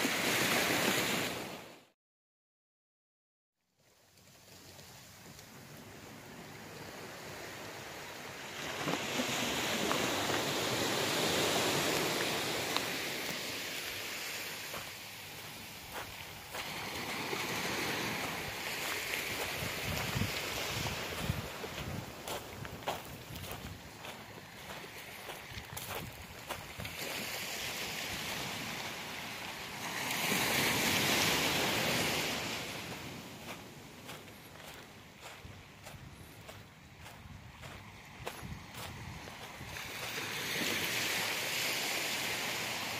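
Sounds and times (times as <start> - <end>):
surf washing up beach: 0.0 - 1.8, 4.3 - 42.9.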